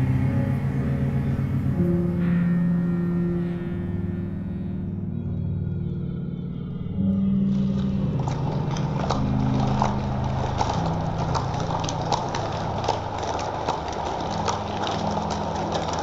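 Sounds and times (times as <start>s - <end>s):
low droning tones: 0.0s - 16.0s.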